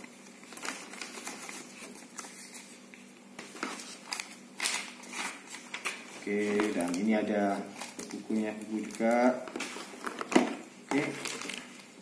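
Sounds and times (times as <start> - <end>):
paper booklets rustling: 0.0 - 12.0.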